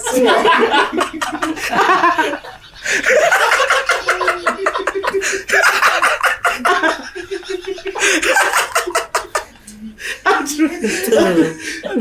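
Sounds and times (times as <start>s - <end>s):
men laughing loudly: 0.0s - 12.0s.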